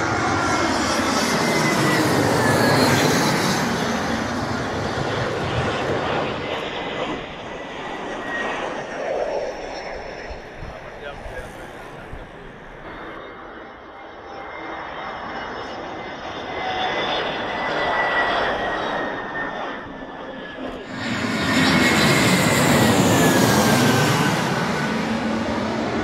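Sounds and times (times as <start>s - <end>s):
jet airliner passing: 0.0s - 26.0s.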